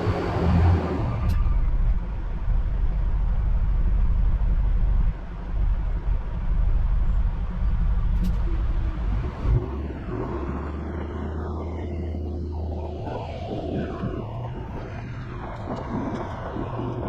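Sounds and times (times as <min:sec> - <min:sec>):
dump truck engine rumble: 0:00.0 - 0:17.0.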